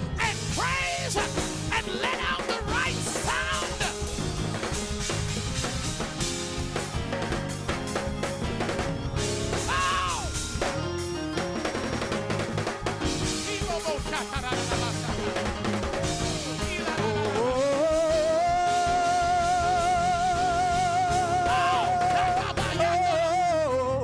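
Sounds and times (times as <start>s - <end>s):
drum kit: 0.0s - 24.0s
praise band playing up-tempo music: 0.0s - 24.0s.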